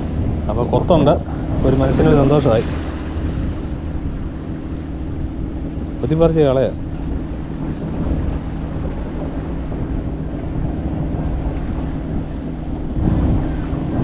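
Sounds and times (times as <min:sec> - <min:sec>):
boat engine drone: 0:00.0 - 0:14.0
wind buffeting microphone: 0:00.0 - 0:14.0.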